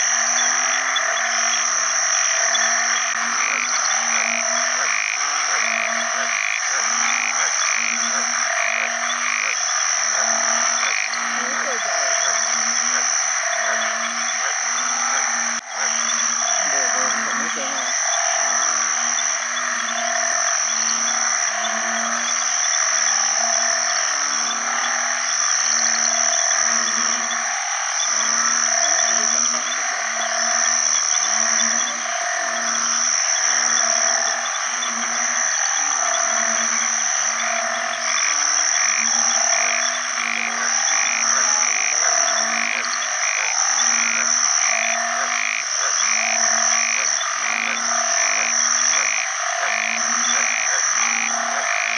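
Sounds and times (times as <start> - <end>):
frog moaning call: 0.0 - 51.9
insects and frogs chorus: 0.0 - 51.9.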